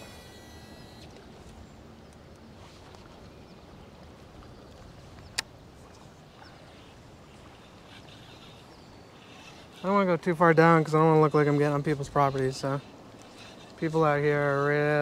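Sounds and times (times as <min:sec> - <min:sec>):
pond water lapping: 0:00.0 - 0:15.0.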